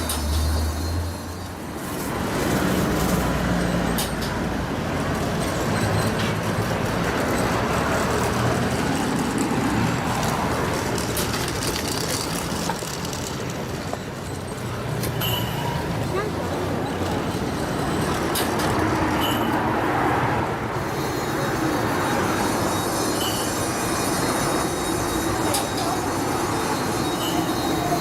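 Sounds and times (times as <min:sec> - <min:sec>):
motor vehicles passing: 0:00.0 - 0:28.0.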